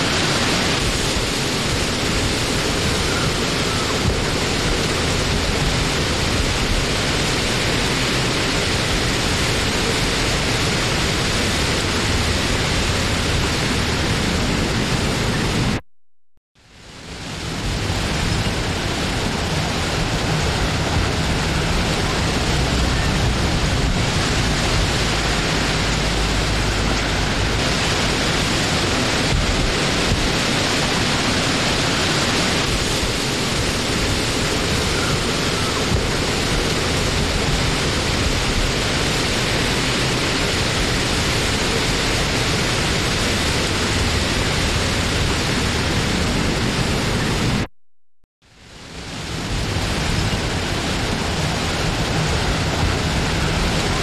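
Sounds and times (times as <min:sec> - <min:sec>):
wind blowing: 0:00.0 - 0:15.8, 0:16.6 - 0:47.7, 0:48.6 - 0:54.0.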